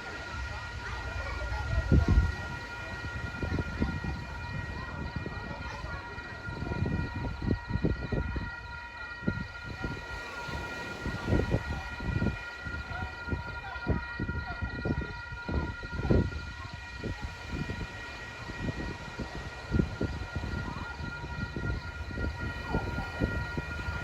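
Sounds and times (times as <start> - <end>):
steady high whine: 0.0 - 24.0.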